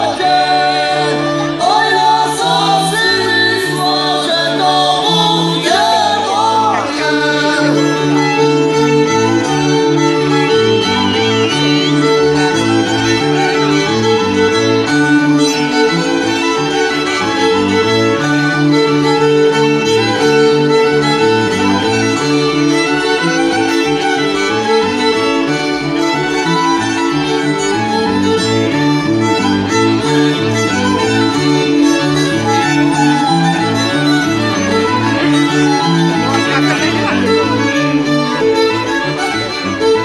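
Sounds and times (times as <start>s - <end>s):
held drone note: 0.0s - 40.0s
violin lead: 0.0s - 40.0s
bass line: 5.1s - 40.0s.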